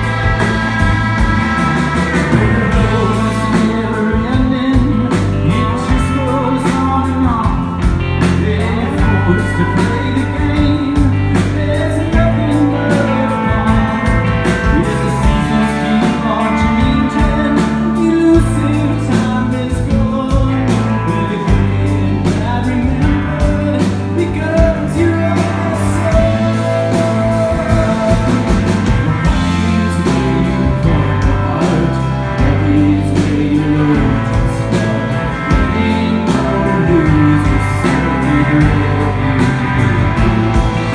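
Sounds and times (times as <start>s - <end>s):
bass guitar: 0.0s - 40.9s
drums: 0.0s - 40.9s
electric guitars: 0.0s - 40.9s
lead vocal singing: 0.0s - 40.9s.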